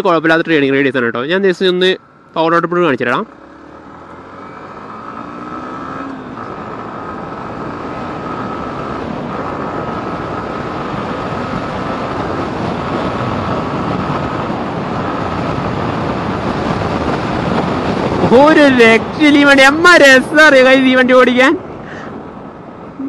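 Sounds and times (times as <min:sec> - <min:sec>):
wind rushing over microphone: 0:00.5 - 0:23.0
motorcycle engine accelerating: 0:01.8 - 0:20.7.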